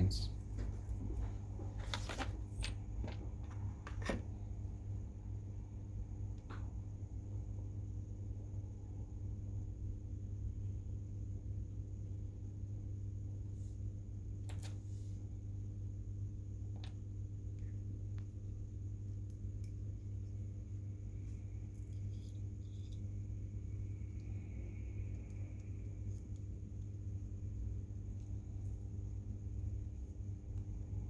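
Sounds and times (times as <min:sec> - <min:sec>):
low room hum: 0:00.0 - 0:31.0.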